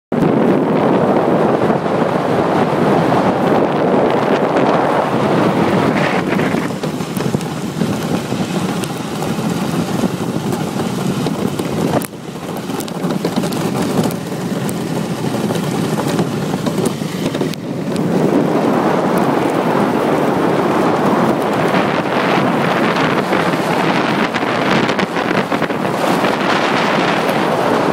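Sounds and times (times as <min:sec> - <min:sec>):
wind buffeting microphone: 0:00.1 - 0:27.9.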